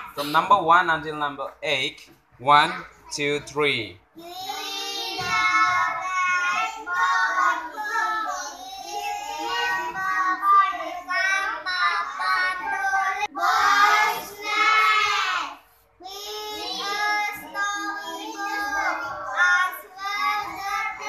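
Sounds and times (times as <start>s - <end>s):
children reading aloud in unison: 2.4s - 21.0s.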